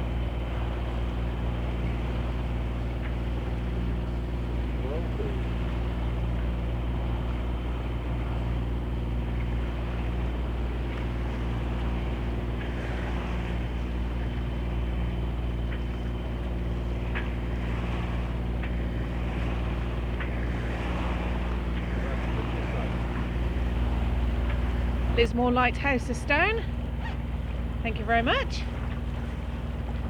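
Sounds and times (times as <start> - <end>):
boat engine humming: 0.0 - 30.0
water rushing: 0.0 - 30.0
wind: 0.0 - 30.0.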